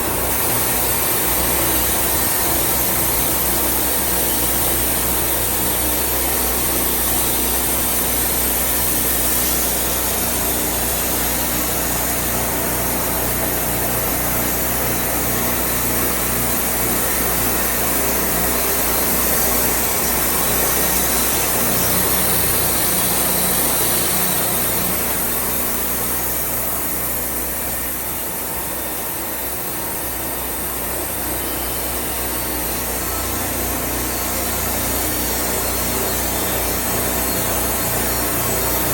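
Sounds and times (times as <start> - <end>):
band sawmill running: 0.0 - 38.9.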